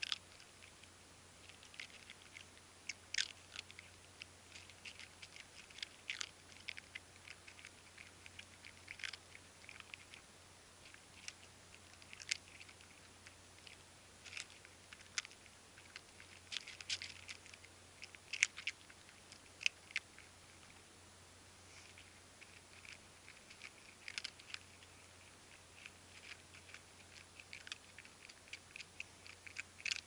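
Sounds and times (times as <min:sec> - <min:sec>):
cats chewing food: 0:00.0 - 0:30.0
faint low hum: 0:00.0 - 0:30.0.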